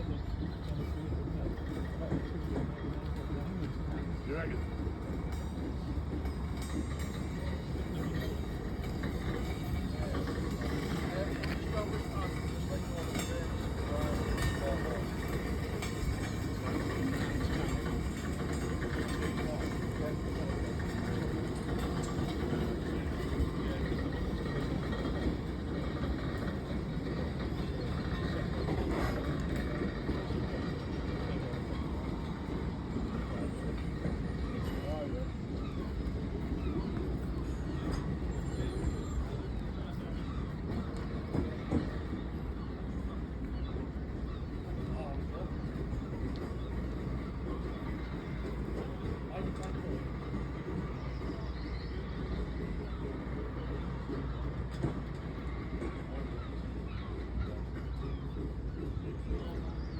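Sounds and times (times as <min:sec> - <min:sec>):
freight train rumbling: 0:00.0 - 0:59.9.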